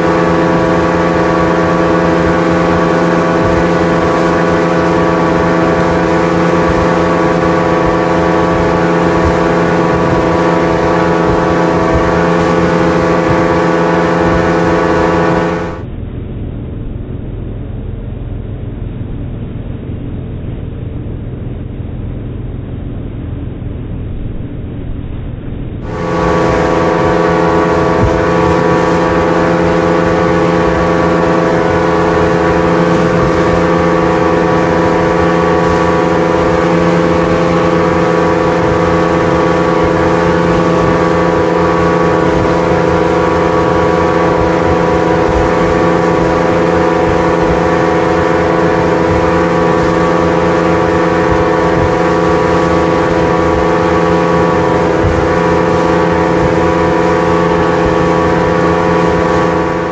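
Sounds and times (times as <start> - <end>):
water spray and wake hissing: 0.0 - 15.9, 25.8 - 59.9
speedboat engine drone: 0.0 - 59.9.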